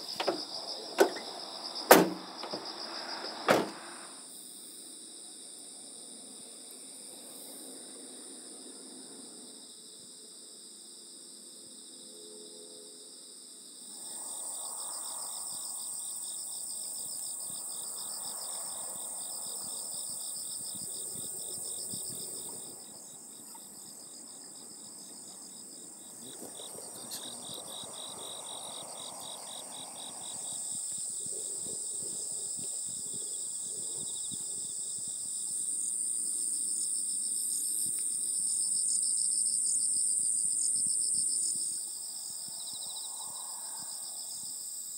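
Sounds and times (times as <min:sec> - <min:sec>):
crickets chirping in trills: 0:00.0 - 0:44.9.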